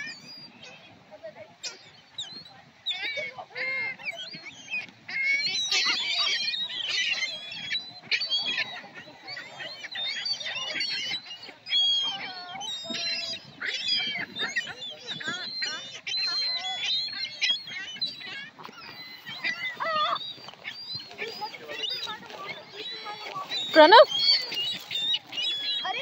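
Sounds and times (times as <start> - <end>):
gulls crying: 1.7 - 26.0.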